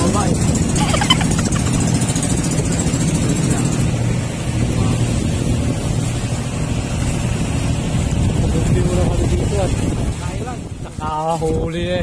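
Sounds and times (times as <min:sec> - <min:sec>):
boat engine droning: 0:00.0 - 0:10.9.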